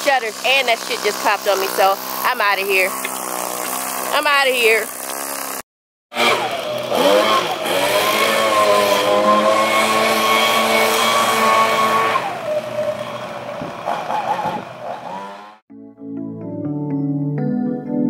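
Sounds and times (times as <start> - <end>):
leaf blower whining: 0.0 - 15.6.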